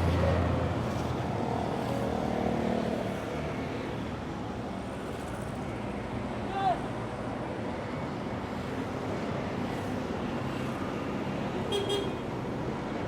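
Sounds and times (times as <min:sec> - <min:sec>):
passing cars road noise: 0:00.0 - 0:13.0.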